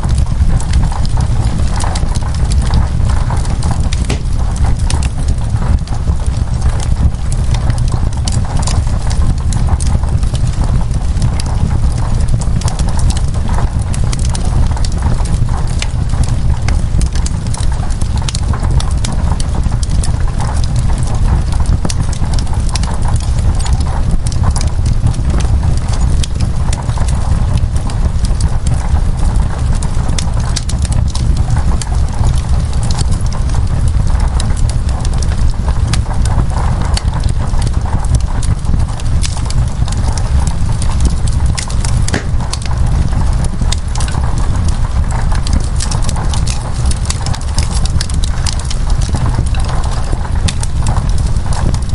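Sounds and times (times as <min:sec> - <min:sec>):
rain on window glass: 0:00.0 - 0:51.9
wood fire crackling and popping: 0:00.0 - 0:51.9.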